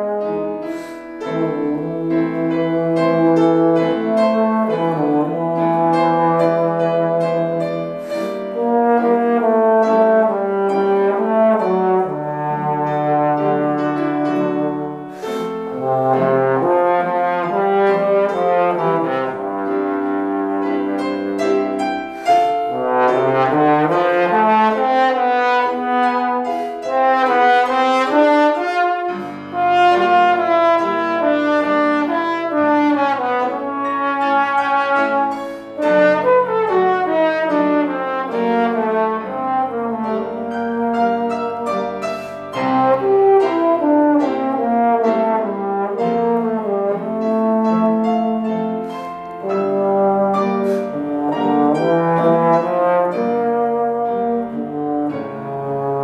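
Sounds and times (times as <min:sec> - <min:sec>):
trombone melody: 0:00.0 - 0:56.0
upright piano chords: 0:00.0 - 0:56.0.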